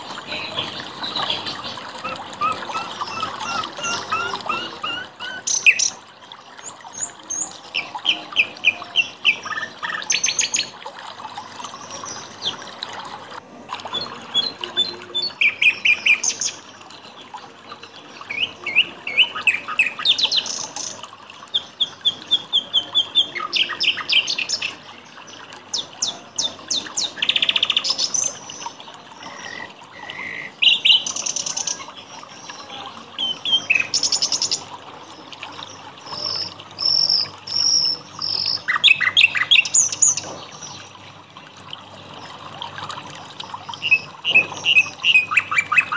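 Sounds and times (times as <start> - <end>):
songbirds singing: 0.0 - 10.8, 11.4 - 12.8, 13.9 - 45.9
trickle of water: 0.0 - 45.9.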